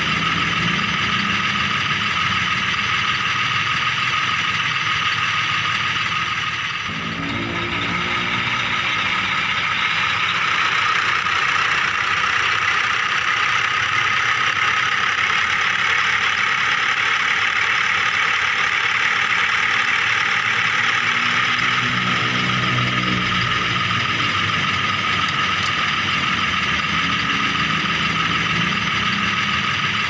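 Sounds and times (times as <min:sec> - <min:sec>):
toy vehicle motor whirring: 0:00.1 - 0:30.0.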